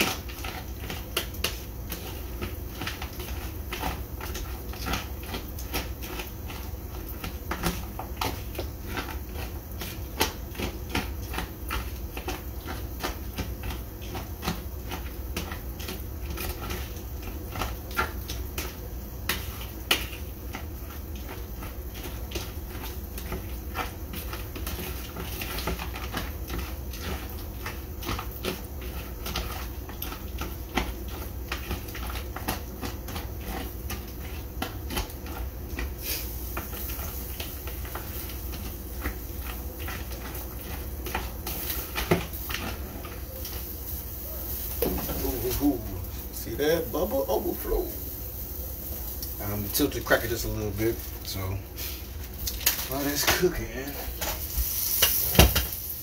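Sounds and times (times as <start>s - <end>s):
grease crackling and popping: 0.0s - 56.0s.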